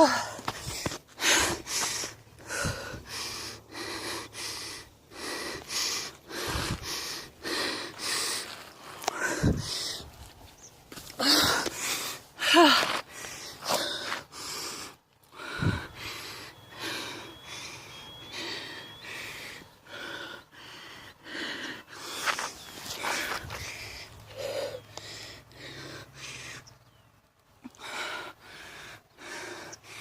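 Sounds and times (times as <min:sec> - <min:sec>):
person breathing hard: 0:00.0 - 0:10.3, 0:11.1 - 0:26.7, 0:27.6 - 0:30.0.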